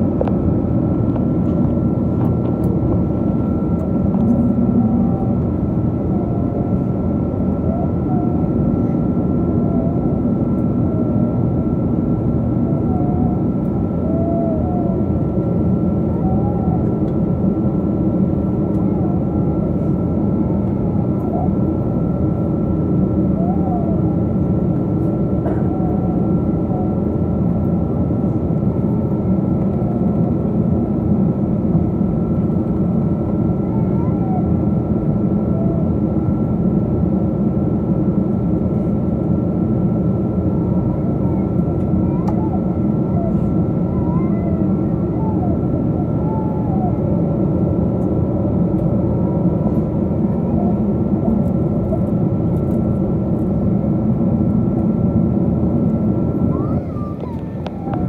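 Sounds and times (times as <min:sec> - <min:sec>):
jet engine and airflow rush: 0:00.0 - 0:58.0.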